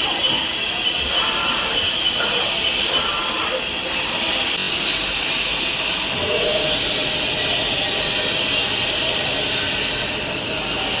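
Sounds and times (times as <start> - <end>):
lathe cutting hiss: 0.0 - 11.0
lathe machine running: 0.0 - 11.0.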